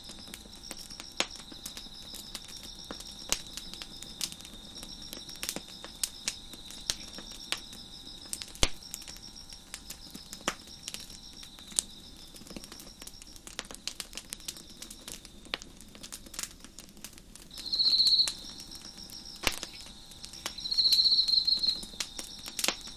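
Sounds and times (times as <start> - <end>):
nearby cricket trilling loudly: 0.0 - 15.5, 17.5 - 22.9
crickets chirping: 0.0 - 16.7, 17.4 - 22.9
wood fire crackling and popping: 0.0 - 22.9.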